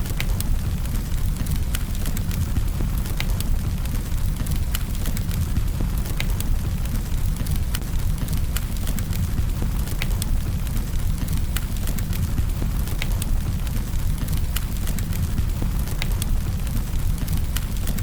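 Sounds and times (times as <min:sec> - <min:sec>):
campfire low rumble: 0:00.0 - 0:18.0
wood crackling and popping: 0:00.0 - 0:18.0.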